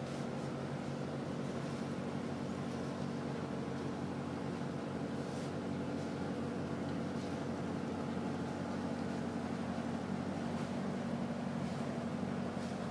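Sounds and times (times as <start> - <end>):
boat machinery humming: 0.0 - 12.9.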